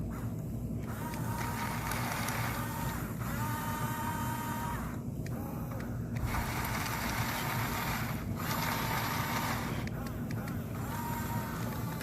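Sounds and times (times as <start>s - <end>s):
steady low hum: 0.0s - 12.0s
toy excavator motors whining: 0.0s - 12.0s.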